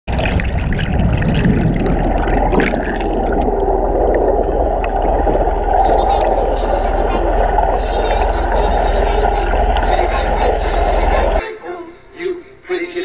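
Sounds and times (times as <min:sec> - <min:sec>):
muffled underwater churning water: 0:00.0 - 0:11.4.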